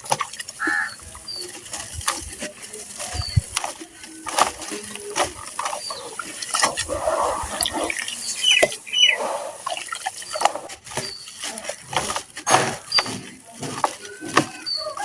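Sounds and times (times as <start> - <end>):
wet sand chunks crunching: 0.0 - 15.0
wet squelching: 0.0 - 15.0.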